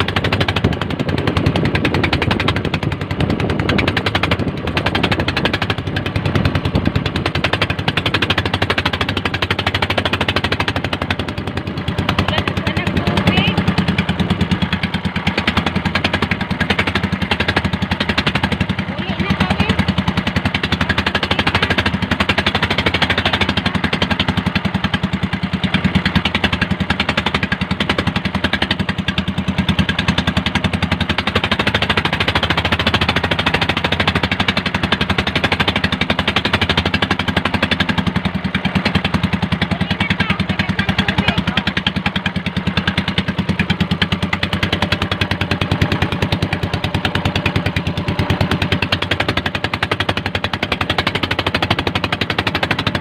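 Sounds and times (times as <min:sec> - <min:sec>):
boat engine chattering: 0:00.0 - 0:53.0.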